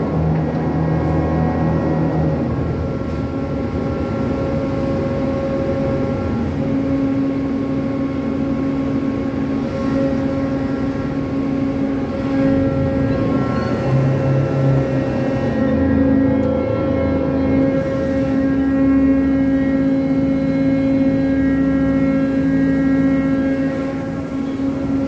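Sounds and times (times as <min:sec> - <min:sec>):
crane machinery droning: 0:00.0 - 0:25.0
lower mechanical hum: 0:00.0 - 0:25.0.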